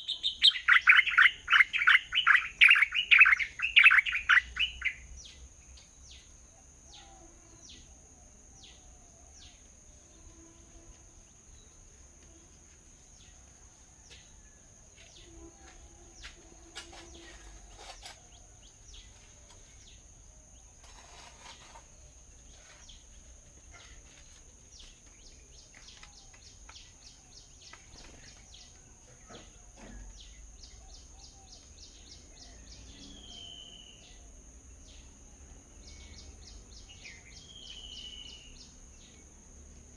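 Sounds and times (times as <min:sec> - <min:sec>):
small birds chirping: 0:00.0 - 0:07.9, 0:13.1 - 0:39.4.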